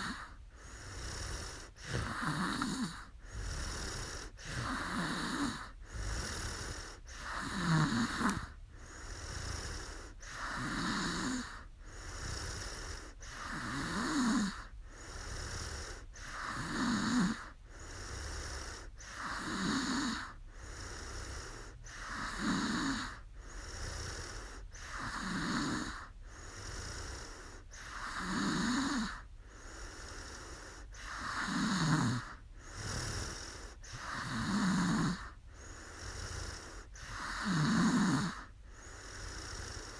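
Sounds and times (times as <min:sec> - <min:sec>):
woman snoring: 0:00.0 - 0:39.9.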